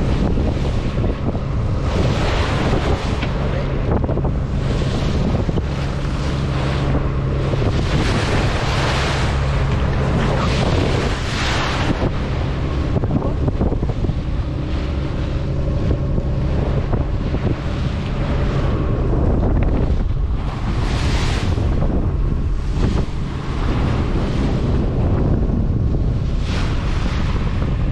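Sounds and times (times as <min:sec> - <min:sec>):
boat engine running: 0:00.0 - 0:27.9
waves rushing along hull: 0:00.0 - 0:27.9
wind buffeting microphone: 0:00.0 - 0:27.9.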